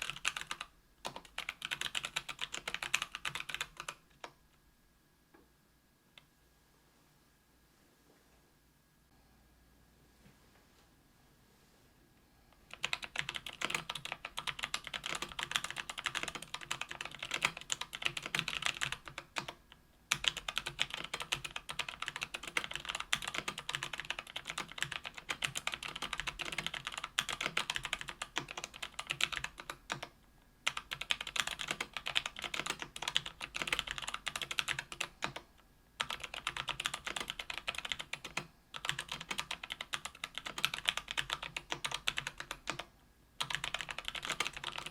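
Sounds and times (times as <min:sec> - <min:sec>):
typing on mechanical keyboard: 0:00.0 - 0:04.4, 0:12.7 - 0:44.9.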